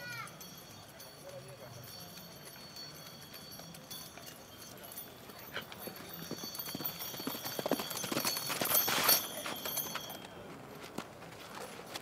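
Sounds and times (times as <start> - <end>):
horse hoofbeats: 0.8 - 12.0.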